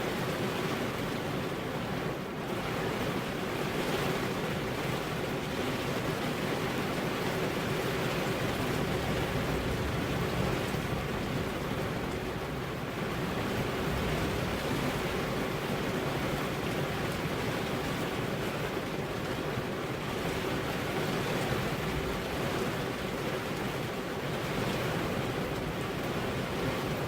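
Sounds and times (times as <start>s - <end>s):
rain on car glass: 1.8s - 27.0s.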